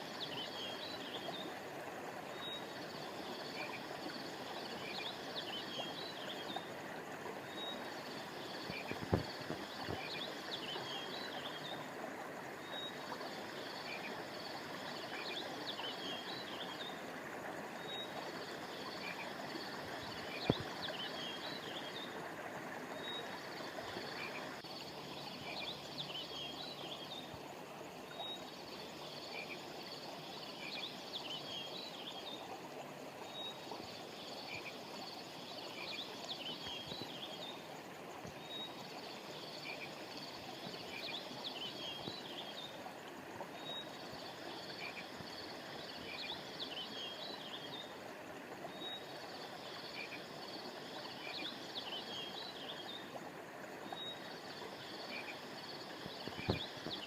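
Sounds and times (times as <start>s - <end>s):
flowing stream rushing: 0.0s - 29.0s, 32.1s - 57.0s.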